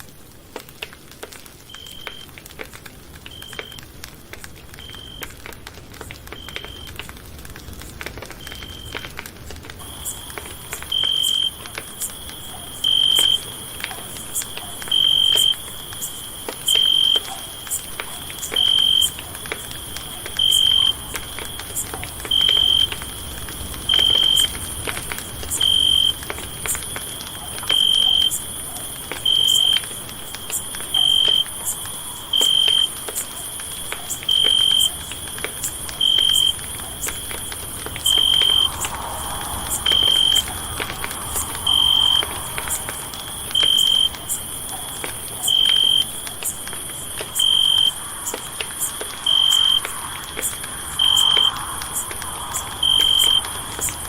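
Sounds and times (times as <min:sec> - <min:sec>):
campfire crackling and popping: 0:00.0 - 0:54.0
steady high hiss: 0:09.8 - 0:54.0.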